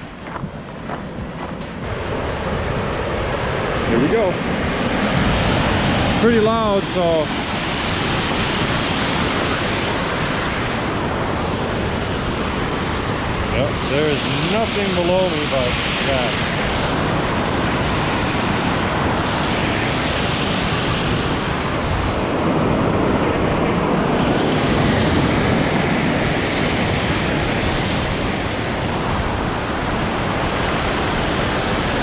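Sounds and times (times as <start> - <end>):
wind buffeting microphone: 0.0 - 32.0
water rushing over a dam: 2.2 - 32.0.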